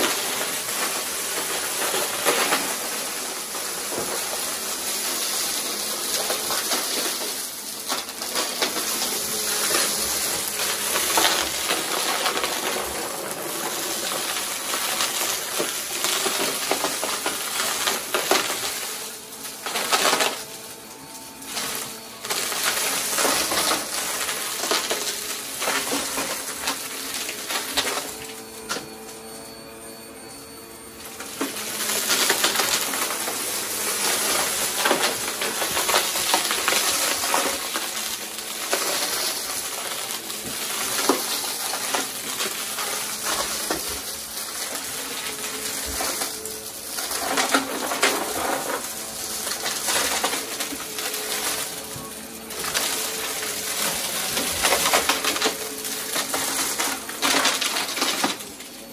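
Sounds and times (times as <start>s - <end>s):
debris rattling through vacuum nozzle: 0.0s - 58.9s
vacuum cleaner motor hum: 0.0s - 58.9s.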